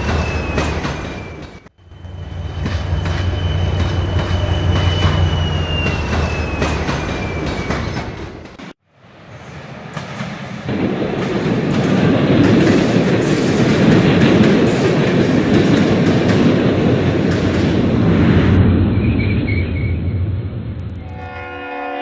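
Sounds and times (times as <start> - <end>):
train rail clatter: 0.0 - 8.8, 9.4 - 18.5.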